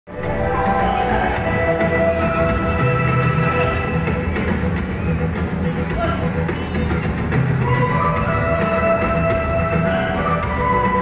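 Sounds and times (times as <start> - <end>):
music with long held notes: 0.1 - 11.0.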